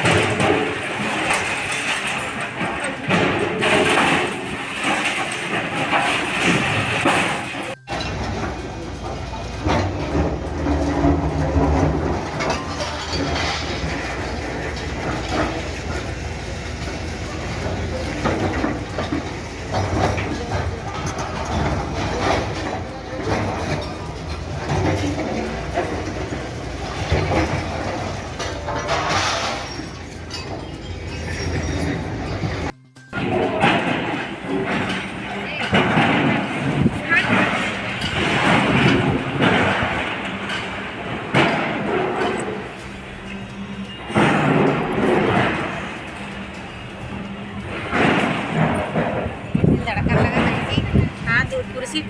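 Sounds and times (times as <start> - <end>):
diesel engine rumble: 0.0 - 52.0
rubble and glass crashing: 0.0 - 52.0.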